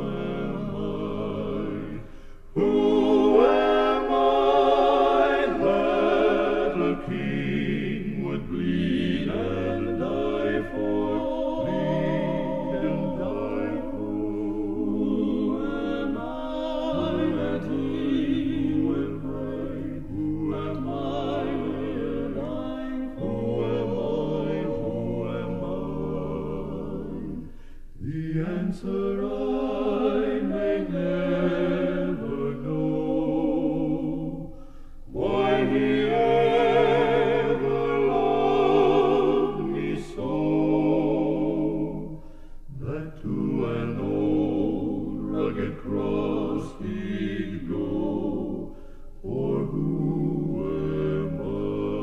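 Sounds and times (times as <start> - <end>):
male quartet singing in harmony: 0.0 - 52.0.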